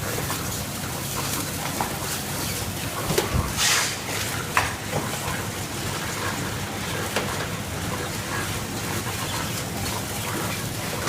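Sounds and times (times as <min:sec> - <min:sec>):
wrapping machine whirring: 0:00.0 - 0:11.0.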